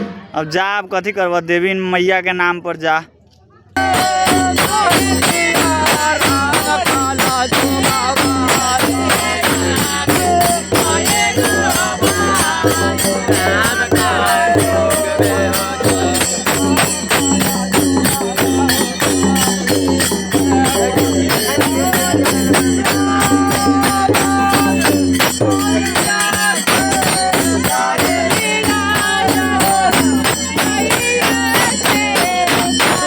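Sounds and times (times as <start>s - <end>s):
folk devotional music: 3.8s - 33.0s
jingling percussion: 3.8s - 33.0s.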